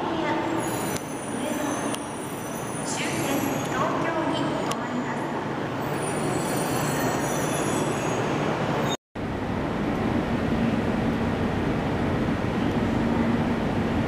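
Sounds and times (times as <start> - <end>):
train rumbling and humming: 0.0 - 14.0.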